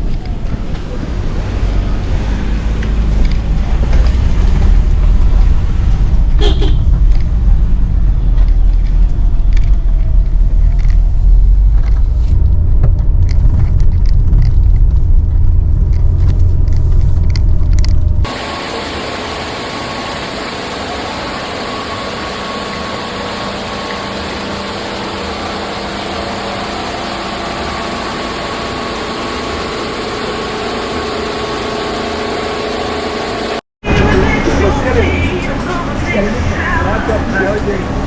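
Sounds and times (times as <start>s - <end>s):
car rumbling in motion: 0.0s - 37.9s.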